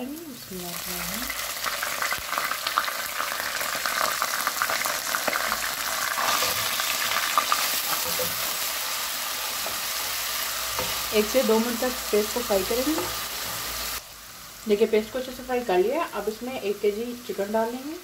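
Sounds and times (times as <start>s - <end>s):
paste sizzling in hot oil: 0.3s - 18.0s.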